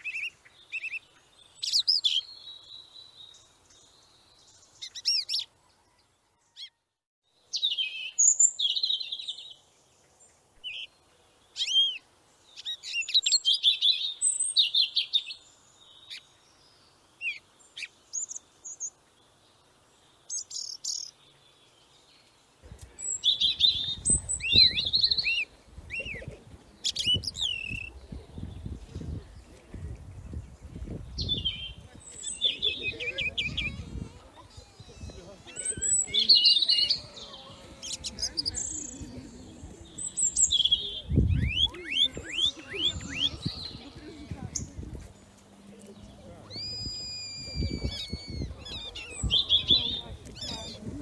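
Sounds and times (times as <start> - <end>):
small birds chirping: 0.0 - 6.8, 7.4 - 51.0.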